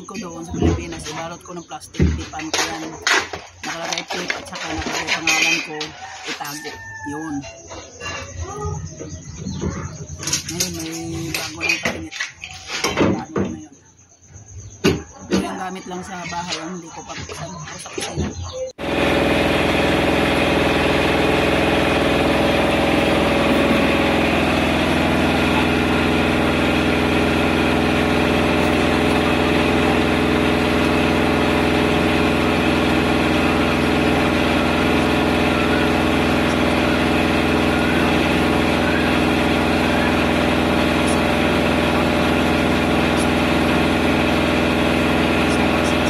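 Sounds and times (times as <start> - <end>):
generator engine humming: 0.0 - 46.0.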